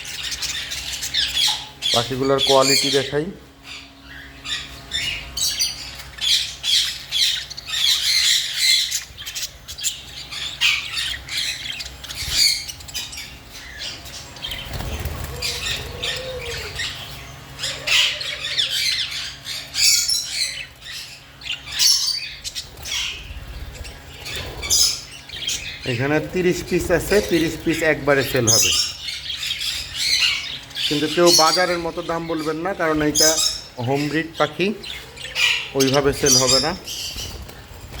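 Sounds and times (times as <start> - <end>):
budgerigars chattering: 0.0 - 38.0.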